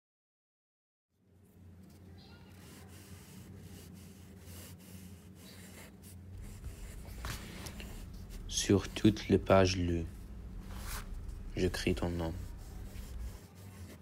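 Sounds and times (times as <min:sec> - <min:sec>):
faint low hum: 0:01.2 - 0:14.0
pen scratching on paper: 0:02.5 - 0:14.0.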